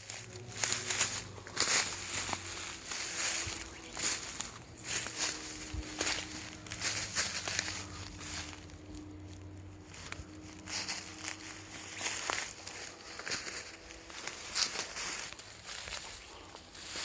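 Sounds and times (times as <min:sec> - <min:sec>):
faint steady hum: 0:00.0 - 0:17.0
scuffing footsteps: 0:00.0 - 0:17.0.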